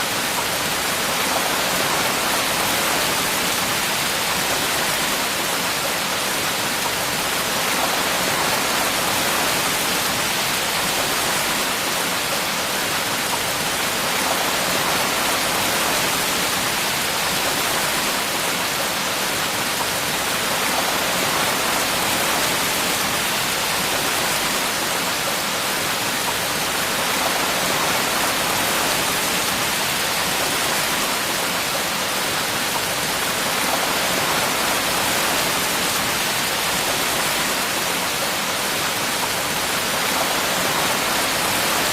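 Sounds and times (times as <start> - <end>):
heavy rainfall: 0.0 - 41.9.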